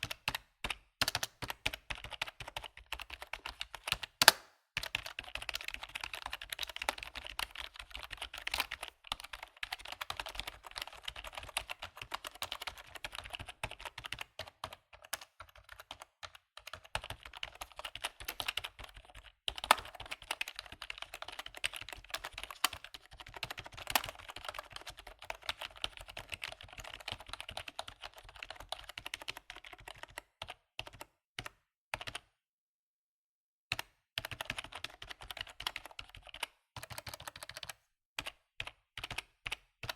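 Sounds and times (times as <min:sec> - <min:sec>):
keyboard typing: 0:00.0 - 0:32.3, 0:33.7 - 0:39.9.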